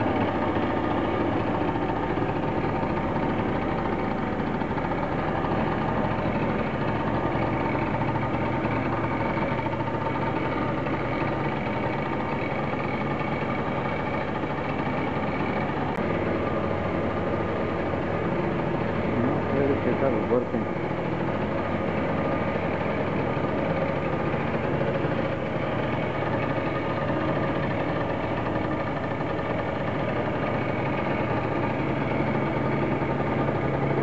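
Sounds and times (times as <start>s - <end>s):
scooter engine idling: 0.0s - 34.0s.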